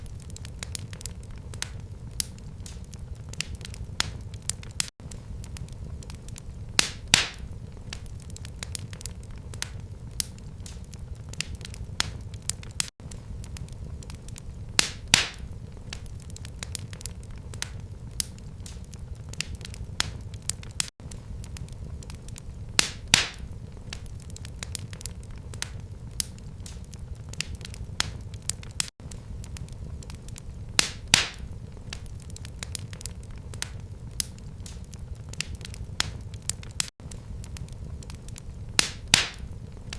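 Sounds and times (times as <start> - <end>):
sharp fire pops: 0.0 - 39.9
wood fire crackling: 0.0 - 39.9.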